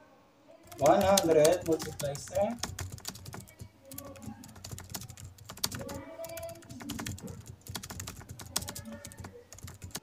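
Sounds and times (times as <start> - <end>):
calculator keys clicking: 0.7 - 10.0.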